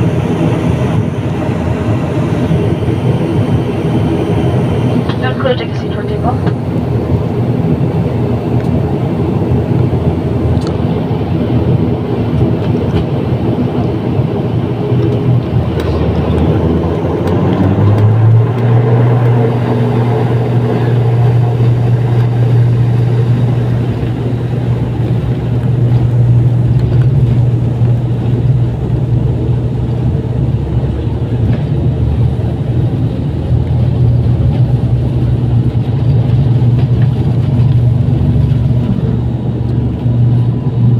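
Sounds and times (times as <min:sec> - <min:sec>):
turboprop engines droning in cabin: 0:00.0 - 0:40.9.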